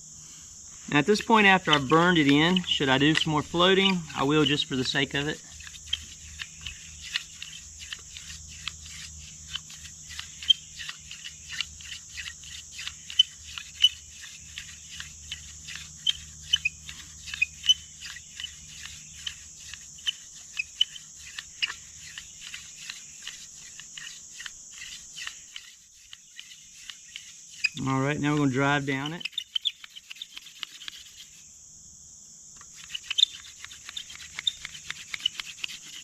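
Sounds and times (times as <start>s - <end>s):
high insect drone: 0.0s - 36.0s
sharp clicks and chirps: 0.7s - 31.5s, 32.5s - 36.0s.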